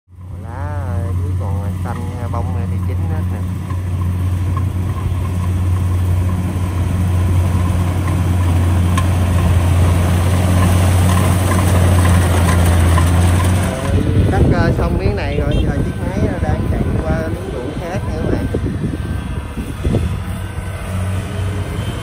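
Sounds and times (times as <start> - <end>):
combine harvester engine running: 0.1 - 22.0.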